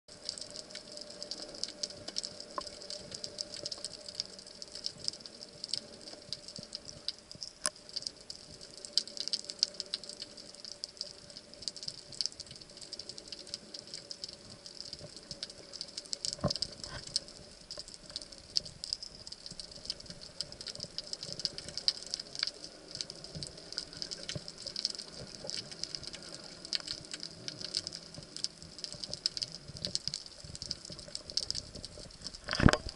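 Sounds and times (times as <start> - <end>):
crackle of tiny clicks underwater: 0.1 - 32.9
faint steady hum: 0.1 - 32.9.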